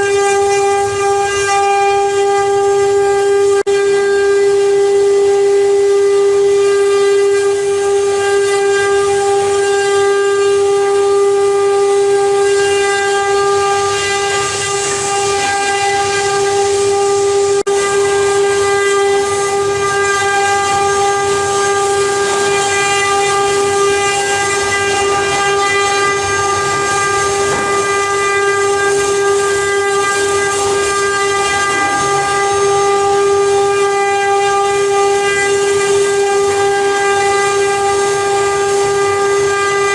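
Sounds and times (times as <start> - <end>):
router spindle high whine: 0.0 - 39.9
hiss of wood cutting: 5.7 - 39.9.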